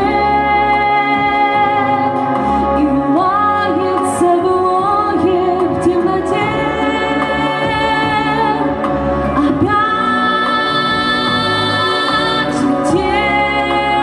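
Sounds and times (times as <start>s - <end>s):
backing track held chords: 0.0s - 14.0s
female duet singing pop ballad: 0.0s - 14.0s.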